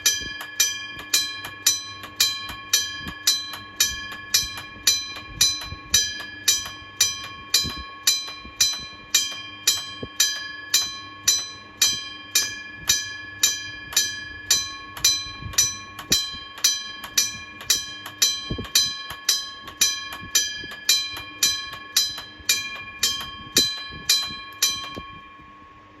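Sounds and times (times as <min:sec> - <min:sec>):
level crossing bell ringing: 0:00.0 - 0:26.0.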